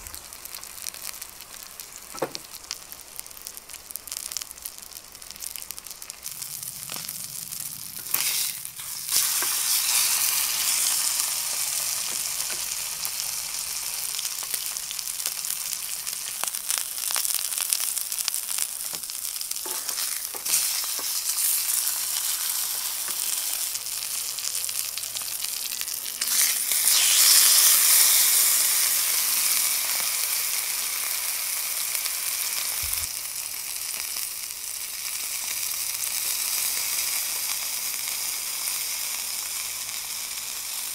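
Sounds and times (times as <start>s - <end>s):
steak sizzling in a frying pan: 0.0s - 40.9s.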